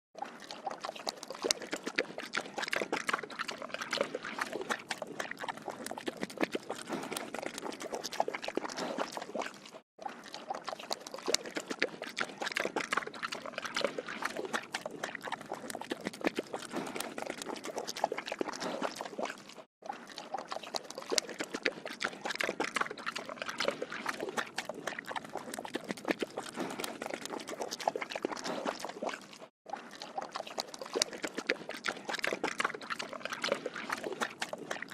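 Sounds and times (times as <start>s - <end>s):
pig slurping water: 0.2s - 34.9s.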